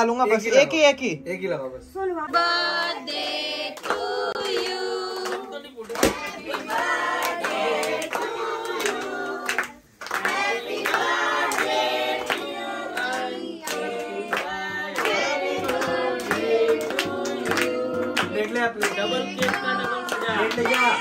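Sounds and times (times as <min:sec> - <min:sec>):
group singing: 0:02.3 - 0:21.0
hands clapping: 0:03.8 - 0:21.0.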